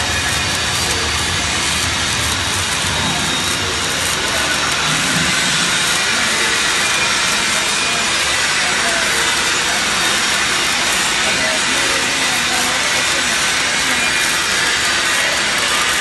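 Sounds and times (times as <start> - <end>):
welding arc hissing crackle: 0.0 - 16.0.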